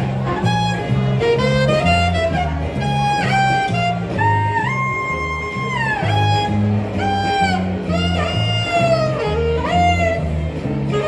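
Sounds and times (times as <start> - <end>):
jazz lead with sliding notes: 0.0 - 11.0
stepping bass line: 0.0 - 11.0.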